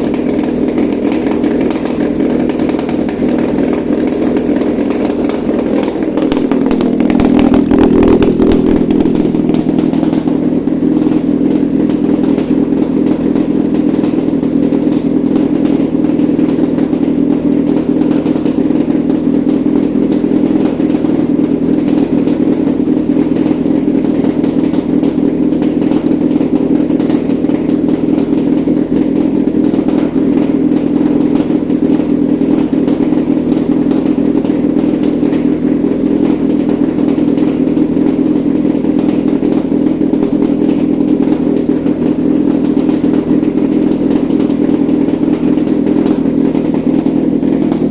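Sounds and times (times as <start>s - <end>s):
petrol engine running: 0.0s - 47.9s.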